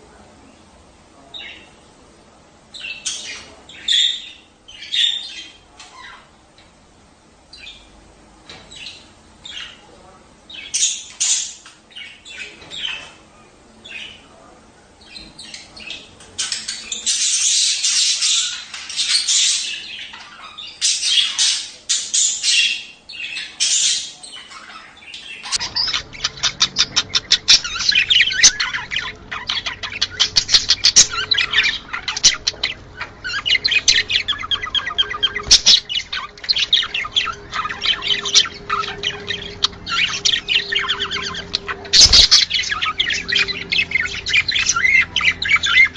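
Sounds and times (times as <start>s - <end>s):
faint steady hum: 0.0s - 45.9s
budgerigars chattering and chirping: 1.2s - 1.8s, 2.7s - 6.4s, 8.6s - 14.4s, 15.0s - 45.9s.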